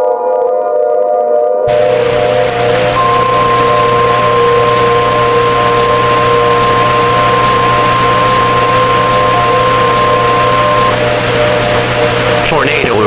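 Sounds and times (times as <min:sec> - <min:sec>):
low steady tones: 0:01.7 - 0:13.0
static hiss: 0:01.7 - 0:13.0.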